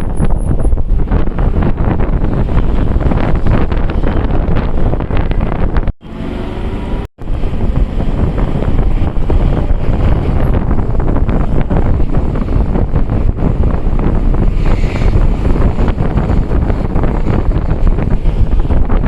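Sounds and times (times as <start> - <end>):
wind buffeting microphone: 0.0 - 6.3, 7.2 - 19.0.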